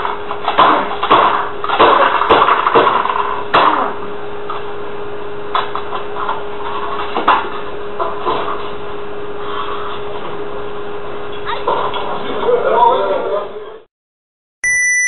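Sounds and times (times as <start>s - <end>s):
steady hum: 0.0s - 13.8s.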